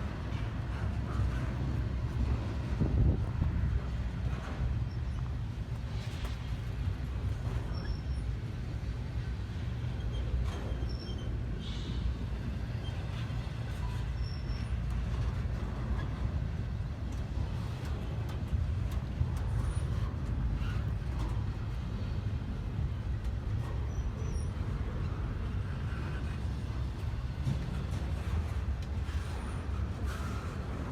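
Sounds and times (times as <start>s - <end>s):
freight train rumbling on rails: 0.0s - 30.9s.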